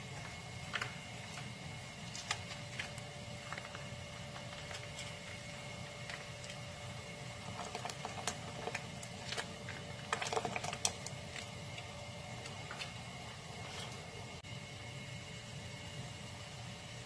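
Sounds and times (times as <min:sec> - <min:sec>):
broth boiling and bubbling: 0:00.0 - 0:17.0.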